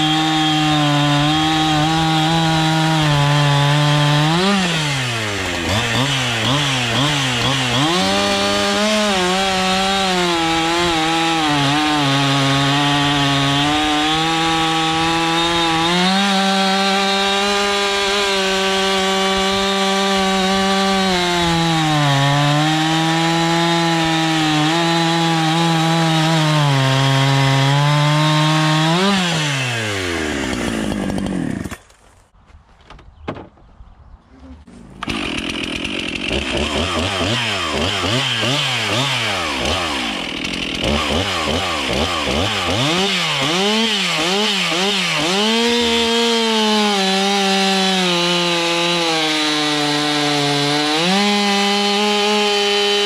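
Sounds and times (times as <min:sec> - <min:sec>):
chainsaw cutting log: 0:00.0 - 0:32.0, 0:34.6 - 0:53.0.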